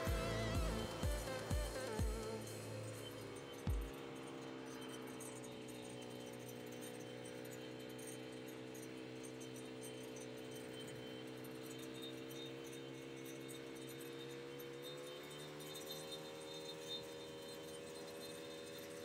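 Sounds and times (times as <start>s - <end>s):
distant snowmobile engine: 0.0s - 19.0s.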